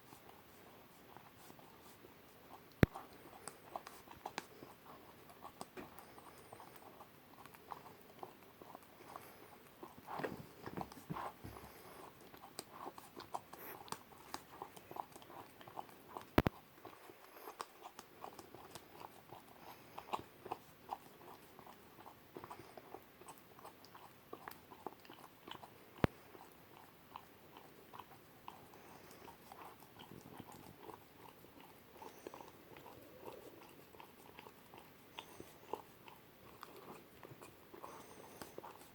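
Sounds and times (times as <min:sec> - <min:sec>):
puppy licking and chewing: 0:00.0 - 0:38.9.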